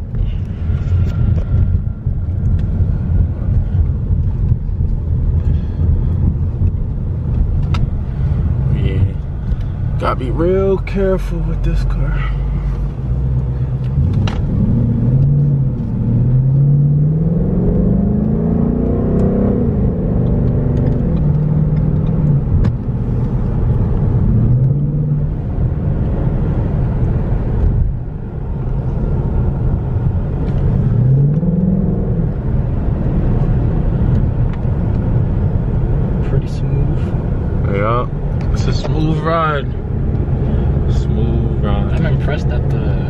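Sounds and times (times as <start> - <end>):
car engine accelerating: 0.0 - 43.0
road and tyre noise: 0.0 - 43.0.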